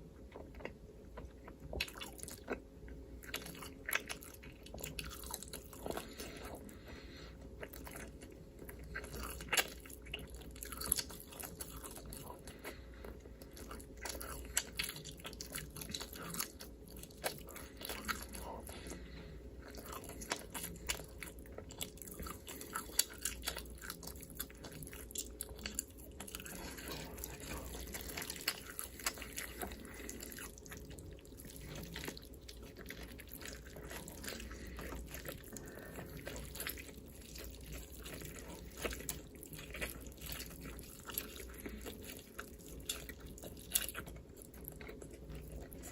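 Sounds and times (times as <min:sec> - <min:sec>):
chewing and crunching: 0:00.0 - 0:45.9
faint steady hum: 0:00.0 - 0:45.9.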